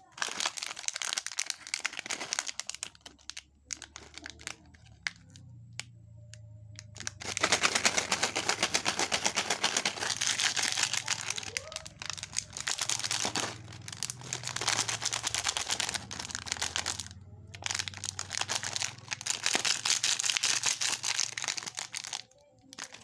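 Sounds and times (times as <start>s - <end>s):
plastic wrapper crinkling: 0.0s - 5.4s, 6.7s - 23.0s.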